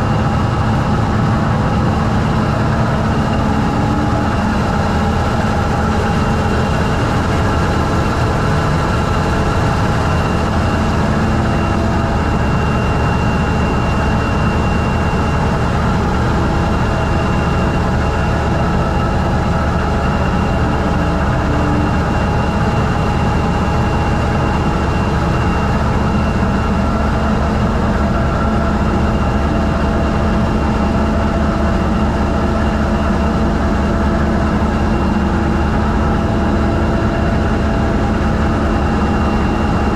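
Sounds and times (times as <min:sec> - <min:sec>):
faint high whine: 0:00.0 - 0:39.9
locomotive engine drone: 0:00.0 - 0:39.9.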